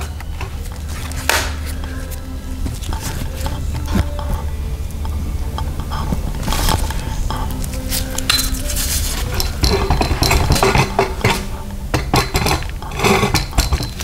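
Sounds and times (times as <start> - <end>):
low hum: 0.0 - 14.0
metal hand tools clinking: 0.0 - 14.0.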